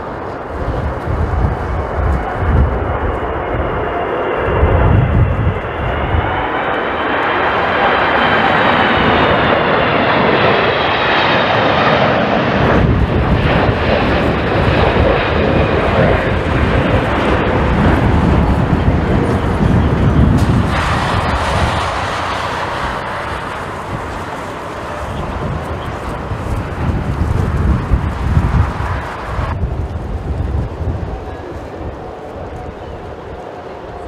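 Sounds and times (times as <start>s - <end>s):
jet engines passing overhead: 0.0s - 34.0s
wind buffeting microphone: 0.0s - 34.0s.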